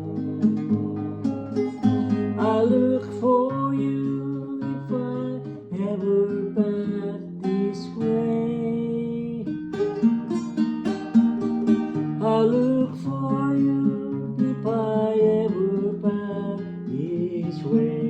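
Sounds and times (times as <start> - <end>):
acoustic guitar folk song: 0.0 - 18.0.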